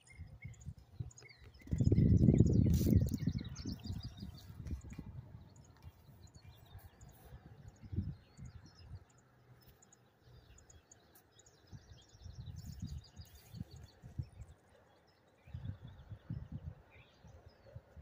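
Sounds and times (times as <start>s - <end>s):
wind buffeting microphone: 0.0s - 9.4s, 10.4s - 18.0s
small birds chirping: 0.0s - 18.0s.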